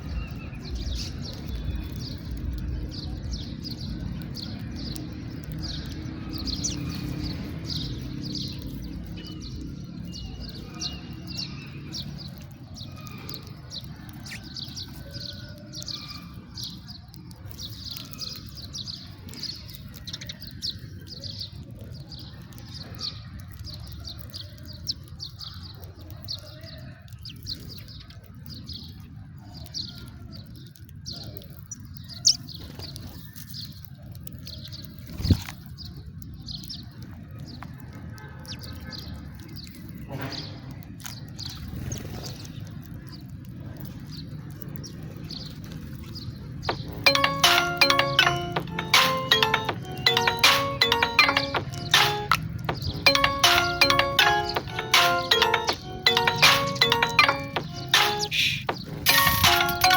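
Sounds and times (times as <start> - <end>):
sparrows chirping: 0.0 - 33.8, 38.4 - 59.9.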